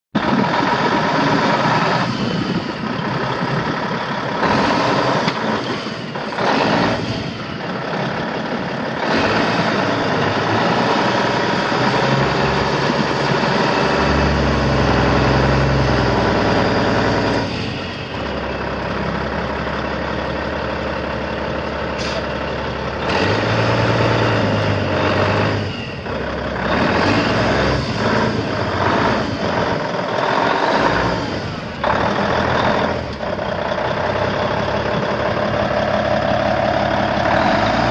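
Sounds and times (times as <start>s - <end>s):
diesel truck engine running: 0.2s - 37.9s.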